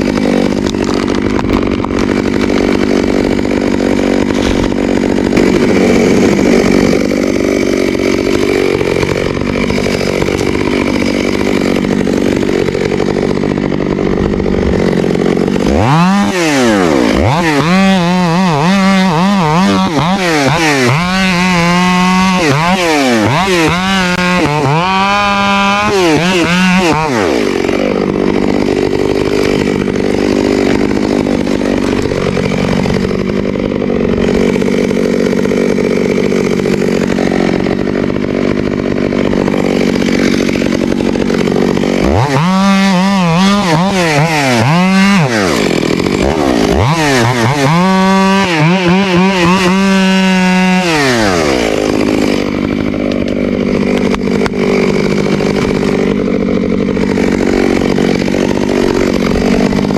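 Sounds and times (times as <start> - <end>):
chainsaw cutting at high revs: 0.0 - 59.9.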